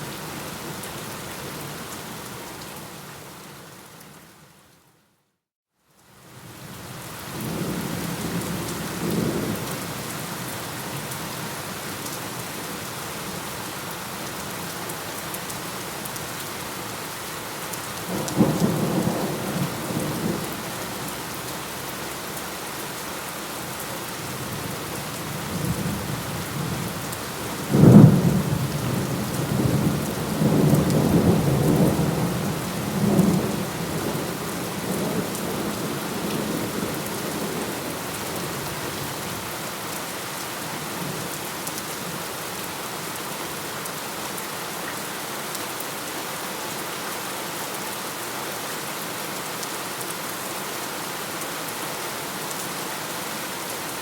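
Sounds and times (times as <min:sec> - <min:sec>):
steady rain falling: 0:05.8 - 0:54.0.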